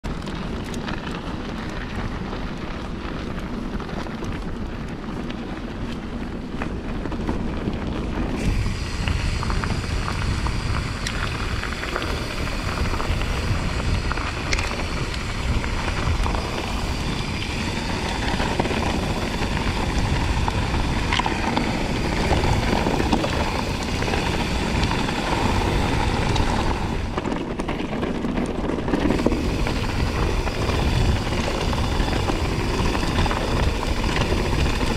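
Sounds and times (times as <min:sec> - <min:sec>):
bike rattling over bumps: 0:00.0 - 0:34.9
wind buffeting microphone: 0:00.0 - 0:34.9.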